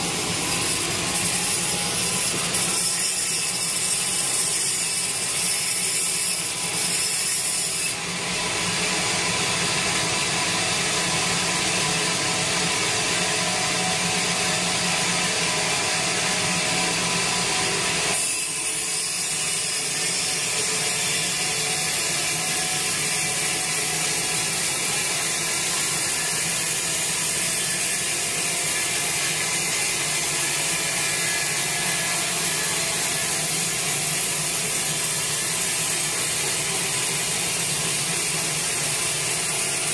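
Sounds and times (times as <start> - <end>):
band saw sawing log: 0.0 - 39.9.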